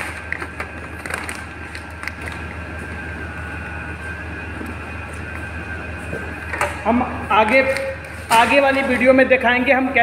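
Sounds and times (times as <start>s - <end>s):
machinery droning: 0.0s - 10.0s.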